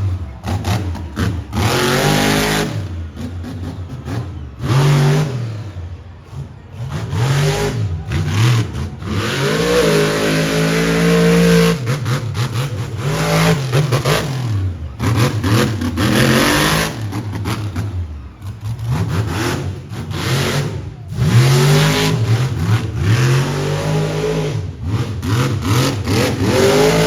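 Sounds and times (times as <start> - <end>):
monster truck engine revving: 0.0 - 27.0.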